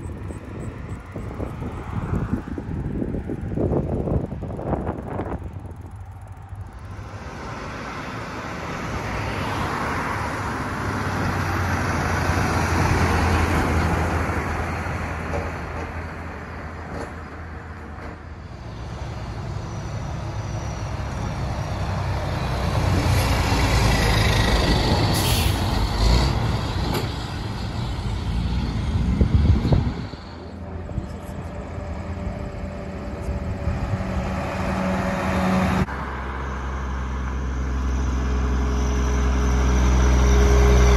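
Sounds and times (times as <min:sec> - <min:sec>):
tires rumbling on road: 0:00.0 - 0:40.9
diesel dump trucks driving past: 0:06.2 - 0:40.9.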